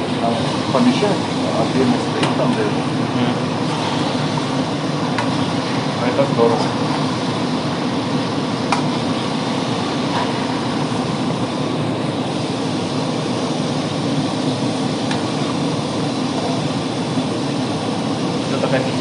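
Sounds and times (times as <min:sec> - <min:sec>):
rushing machinery drone: 0:00.0 - 0:19.0.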